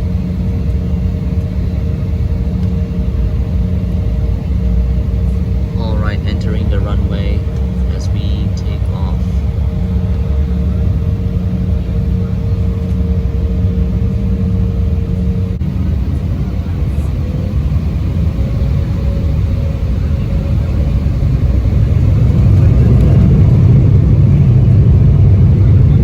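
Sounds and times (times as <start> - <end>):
low rumble of jet engines: 0.0 - 26.0
steady cabin hum: 0.1 - 26.0.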